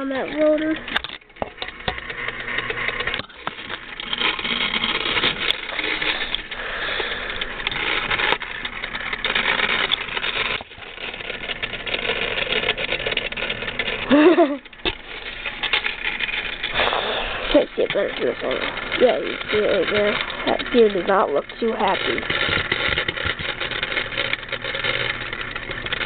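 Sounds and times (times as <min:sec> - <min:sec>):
clock motor whirring and clicking: 0:00.0 - 0:26.0.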